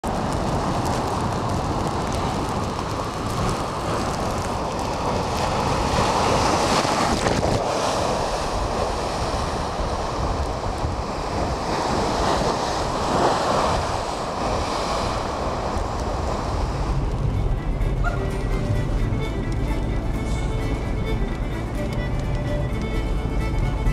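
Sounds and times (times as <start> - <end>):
waves splashing: 0.0 - 23.9
wind buffeting microphone: 0.0 - 23.9.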